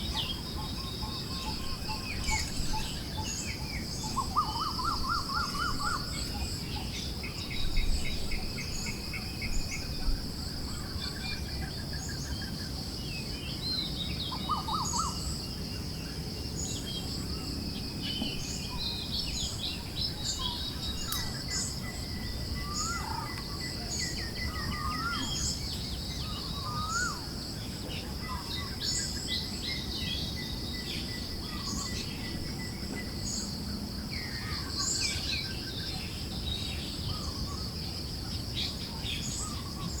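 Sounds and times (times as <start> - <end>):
insect trill: 0.0 - 40.0
songbirds chirping: 0.0 - 40.0.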